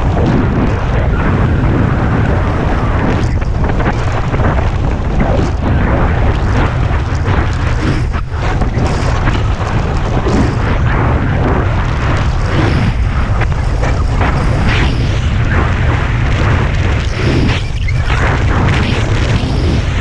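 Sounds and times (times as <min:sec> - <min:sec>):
wind buffeting microphone: 0:00.0 - 0:20.0
skis scraping on snow: 0:03.3 - 0:19.9.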